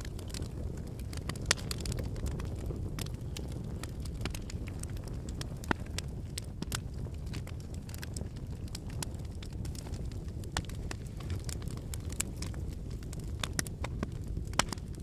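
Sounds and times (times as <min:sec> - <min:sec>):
burning wood crackling and popping: 0:00.0 - 0:15.0
campfire flames rushing: 0:00.0 - 0:15.0.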